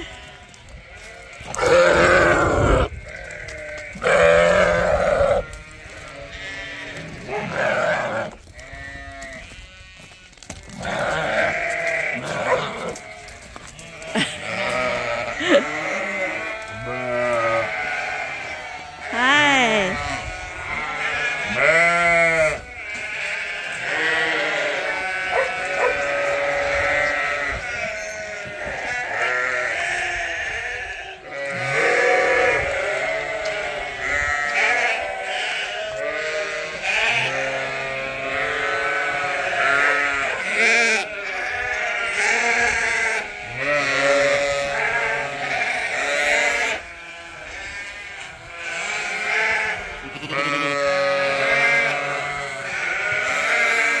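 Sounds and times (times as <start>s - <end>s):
sheep and lambs bleating: 0.0s - 54.0s.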